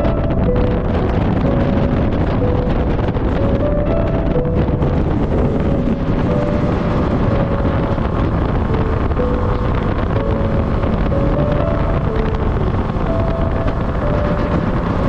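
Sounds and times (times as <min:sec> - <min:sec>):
faint background music: 0:00.0 - 0:15.0
low engine rumble: 0:00.0 - 0:15.0
wind buffeting microphone: 0:00.0 - 0:15.0.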